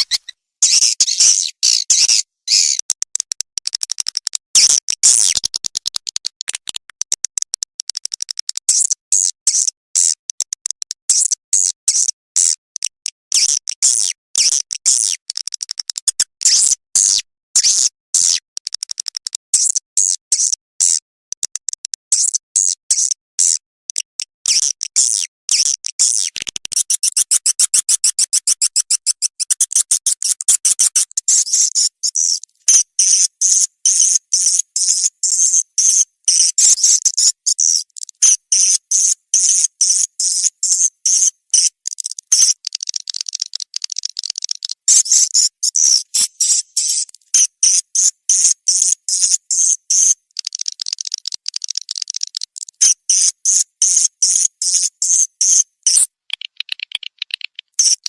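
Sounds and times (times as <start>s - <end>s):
rapid high-pitched chirps and clicks: 0.0s - 58.0s.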